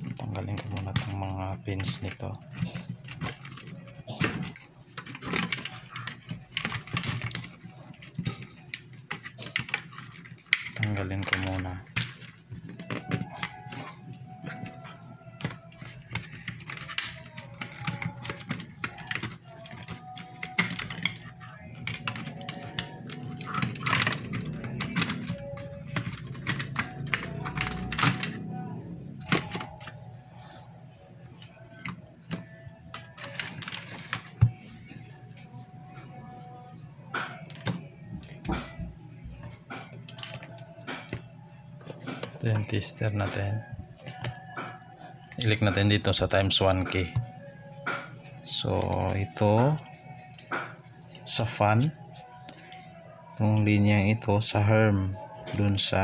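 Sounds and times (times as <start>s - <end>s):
wire connectors clicking and rattling: 0.0s - 30.0s, 31.2s - 35.5s, 37.1s - 54.5s.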